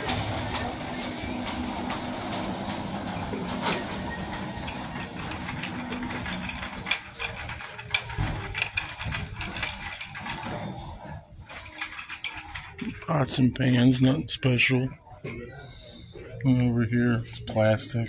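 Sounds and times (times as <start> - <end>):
shopping cart rolling: 0.0 - 14.8.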